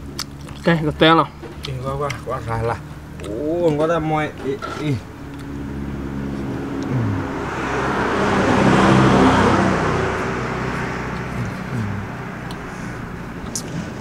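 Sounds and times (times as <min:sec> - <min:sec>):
motor vehicle passing: 0:00.0 - 0:14.0.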